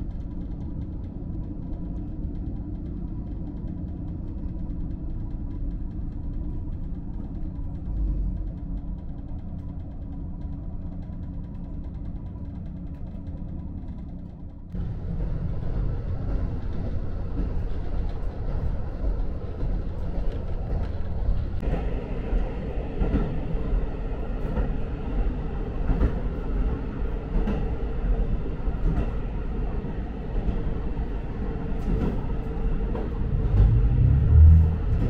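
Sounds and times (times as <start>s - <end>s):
railcar engine drone: 0.0s - 35.0s.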